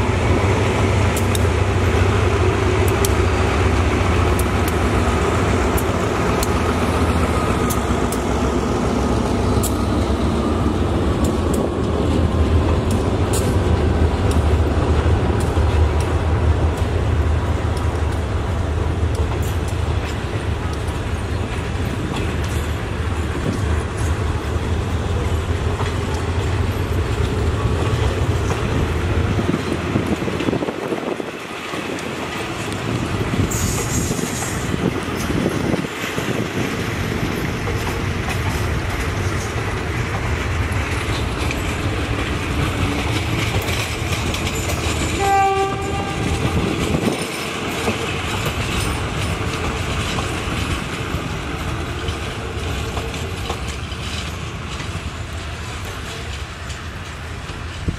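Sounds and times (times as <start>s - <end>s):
locomotive engine passing: 0.0s - 57.9s
wheels clicking over rail joints: 0.0s - 57.9s.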